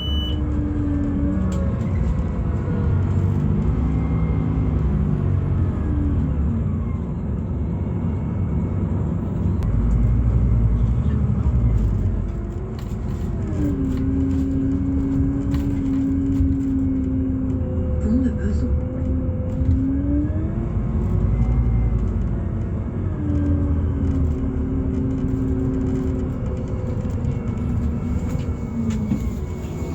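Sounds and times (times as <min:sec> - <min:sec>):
bus engine rumble: 0:00.0 - 0:29.9
drivetrain whine: 0:00.0 - 0:29.9.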